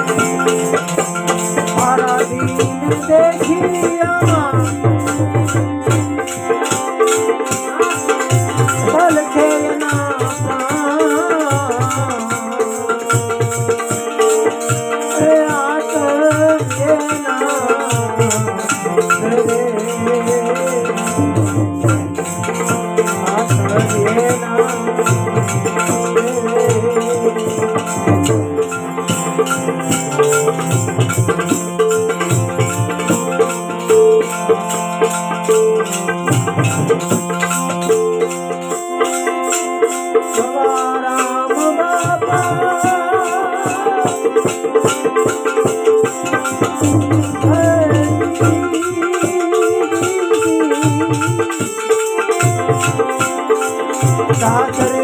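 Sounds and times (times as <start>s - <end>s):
hand drum: 0.0s - 55.0s
held melody tones: 0.0s - 55.0s
jingling hand percussion: 0.0s - 55.0s
wavering melody line: 0.0s - 55.0s.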